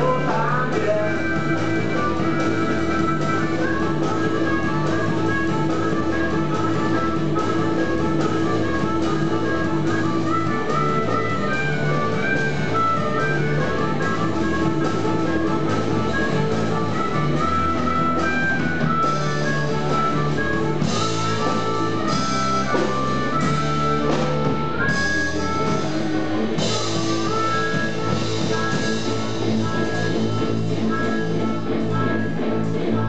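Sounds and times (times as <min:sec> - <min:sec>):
bass guitar: 0:00.0 - 0:33.0
drum kit: 0:00.0 - 0:33.0
electric guitar: 0:00.0 - 0:33.0
harmonica: 0:00.0 - 0:33.0.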